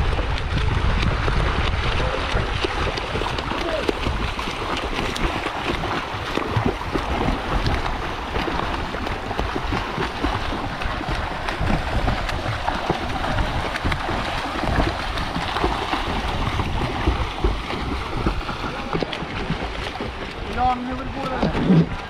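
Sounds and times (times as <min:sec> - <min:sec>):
children swimming and splashing: 0:00.0 - 0:22.0.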